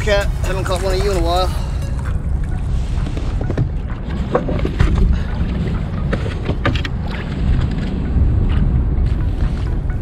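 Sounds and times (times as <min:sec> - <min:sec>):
water splashes: 0:00.0 - 0:09.8
wind rumble on microphone: 0:00.0 - 0:10.0.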